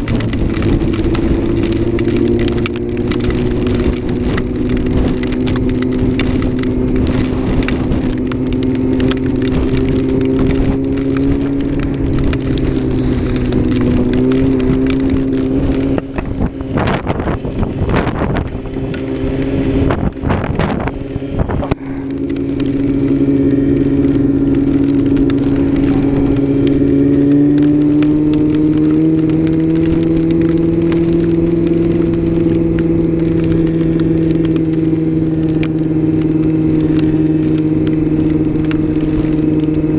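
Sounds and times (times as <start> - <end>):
choppy flapping noise: 0.0 - 39.9
motorcycle engine running: 0.0 - 39.9.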